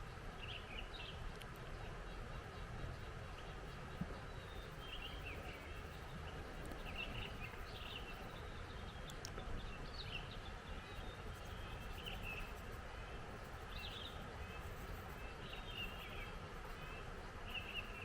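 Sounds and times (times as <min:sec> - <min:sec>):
small birds chirping: 0:00.4 - 0:18.0.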